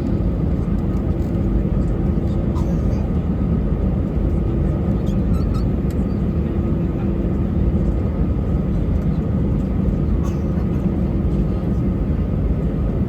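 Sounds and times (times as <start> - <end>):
aircraft engine and airflow drone: 0.0 - 13.0.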